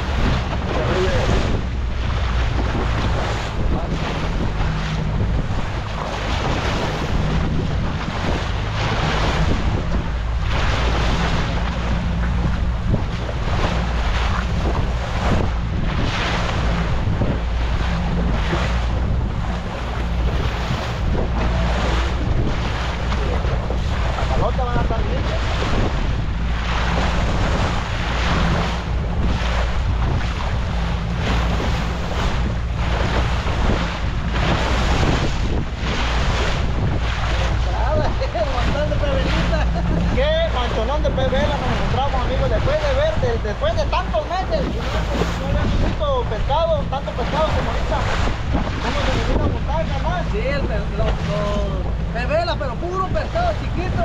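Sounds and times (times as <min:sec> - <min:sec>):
outboard motor running: 0:00.0 - 0:54.0
water rushing past hull: 0:00.0 - 0:54.0
wind on microphone: 0:00.0 - 0:54.0.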